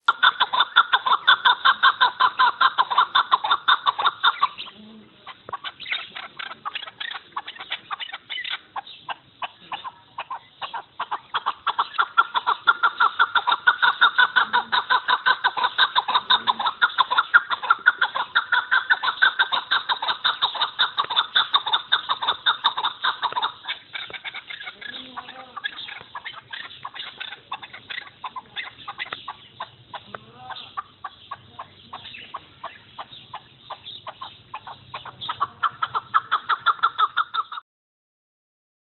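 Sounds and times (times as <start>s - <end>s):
partridge clucking: 0.0s - 37.6s.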